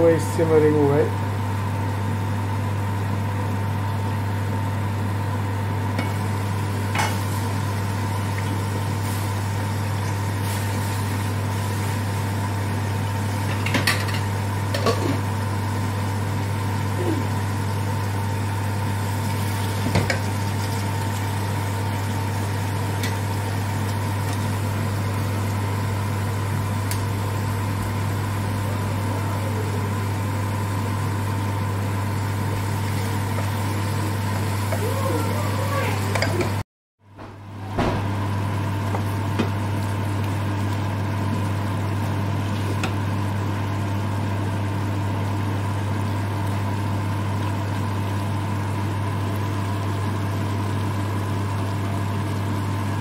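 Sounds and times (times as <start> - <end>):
curry sizzling in a pan: 5.8 - 28.6, 29.9 - 36.6, 38.4 - 53.0.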